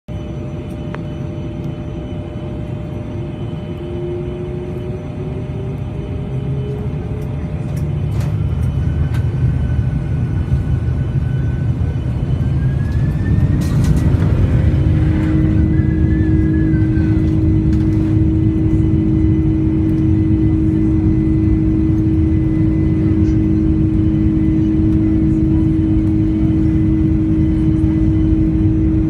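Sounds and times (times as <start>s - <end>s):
jet engines on takeoff: 0.1s - 29.0s.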